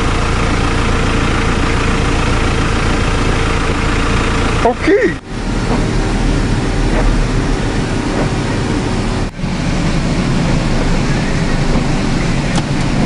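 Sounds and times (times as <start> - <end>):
tractor engine rumbling and rattling: 0.0 - 13.0.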